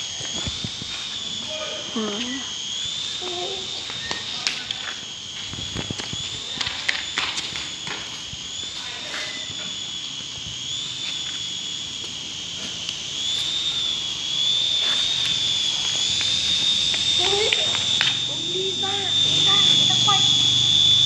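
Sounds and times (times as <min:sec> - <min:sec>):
toy helicopter whine: 0:00.0 - 0:21.0.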